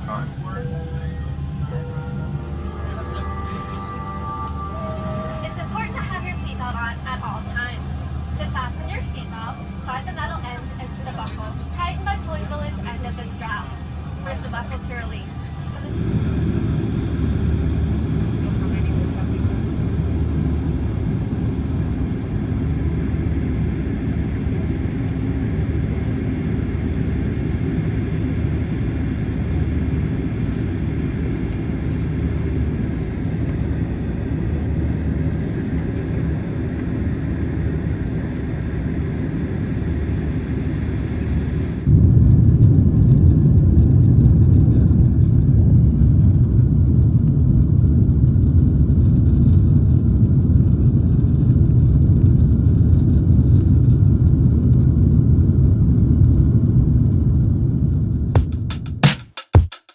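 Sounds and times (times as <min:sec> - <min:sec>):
airliner engine drone: 0:00.0 - 0:59.0
deep takeoff rumble: 0:00.0 - 0:59.1.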